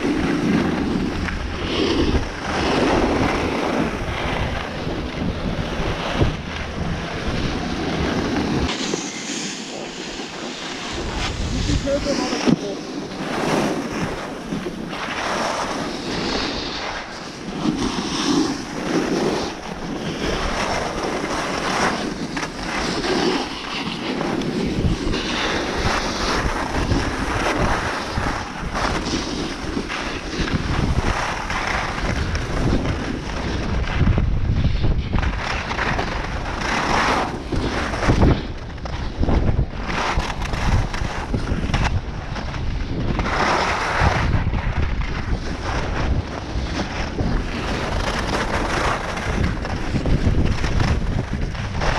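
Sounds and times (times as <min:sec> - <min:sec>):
skis scraping over snow: 0:00.0 - 0:51.9
wind buffeting microphone: 0:00.0 - 0:51.9.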